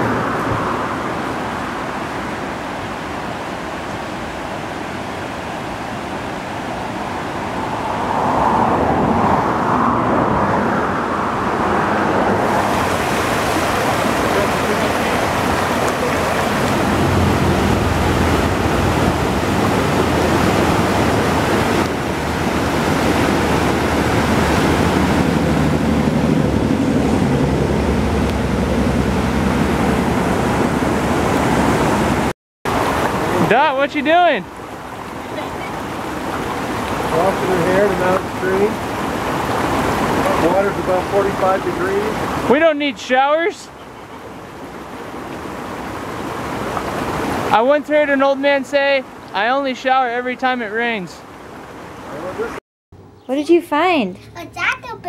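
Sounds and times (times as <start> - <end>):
mountain stream rushing: 0.0 - 52.6.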